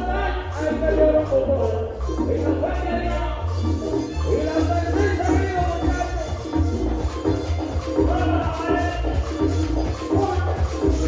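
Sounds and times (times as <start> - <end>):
accordion melody: 0.0 - 11.0
pulsing bass line: 0.0 - 11.0
steady percussion: 0.0 - 11.0.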